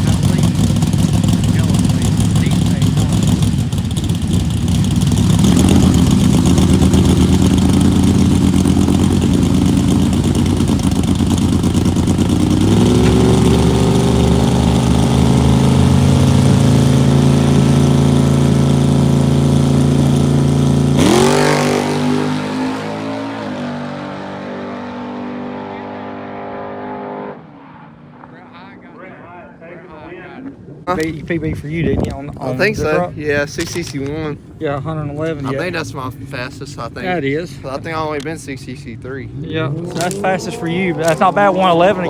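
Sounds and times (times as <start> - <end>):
drag racing engine at full throttle: 0.0 - 31.2, 37.6 - 42.0.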